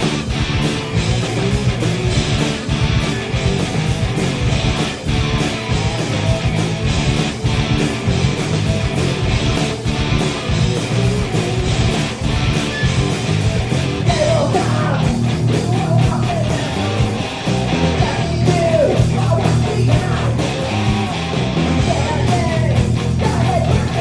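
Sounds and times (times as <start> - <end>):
bass guitar: 0.0 - 24.0
drums: 0.0 - 24.0
electric guitars: 0.0 - 24.0.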